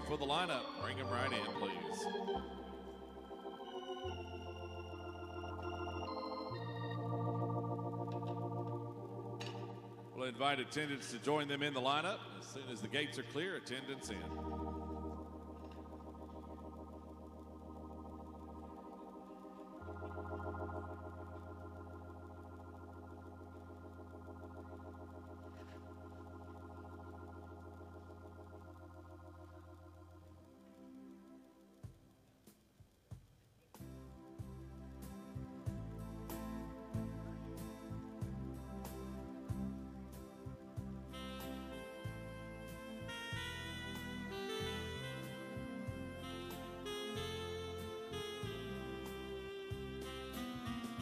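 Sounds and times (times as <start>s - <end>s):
organ playing held chords: 0.0s - 31.8s, 34.0s - 51.0s.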